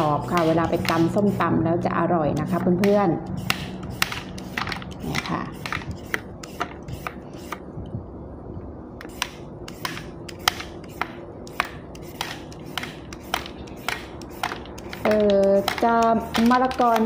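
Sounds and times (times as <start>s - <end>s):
peeler scraping papaya: 0.0s - 7.6s, 9.0s - 17.0s.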